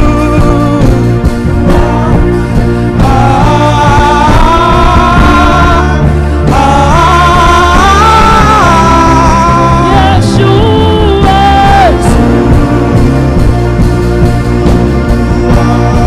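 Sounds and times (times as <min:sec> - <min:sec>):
low bass notes: 0:00.0 - 0:16.0
person singing: 0:00.0 - 0:16.0.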